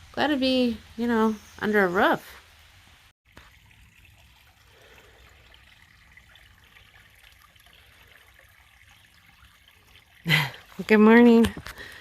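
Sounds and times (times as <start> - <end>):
rainwater dripping and running: 0.0 - 12.0.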